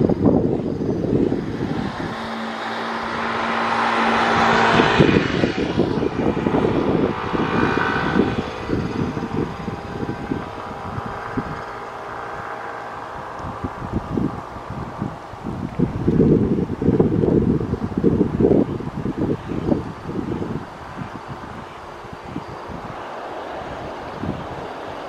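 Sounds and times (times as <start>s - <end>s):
turboprop airliner engine and propellers: 0.0s - 25.0s
wind buffeting microphone: 0.0s - 25.0s.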